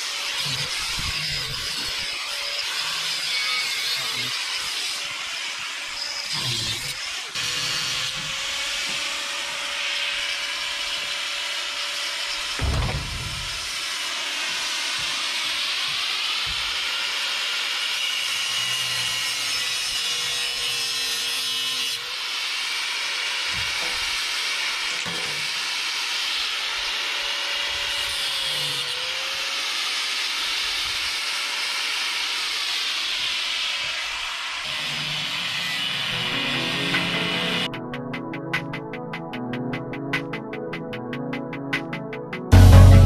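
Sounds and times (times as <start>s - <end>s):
angle grinder cutting steel: 0.0s - 37.7s.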